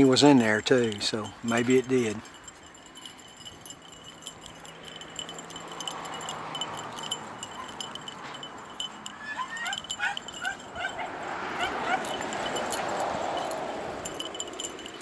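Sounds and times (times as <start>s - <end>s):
high chime-like tinkling: 0.0s - 15.0s
dogs yipping: 2.7s - 15.0s.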